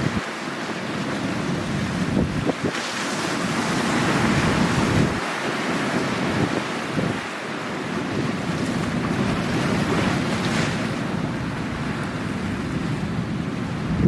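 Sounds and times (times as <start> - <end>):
wind buffeting microphone: 0.0 - 0.3, 0.9 - 7.3, 7.9 - 14.0
sea waves washing on shore: 0.0 - 14.0.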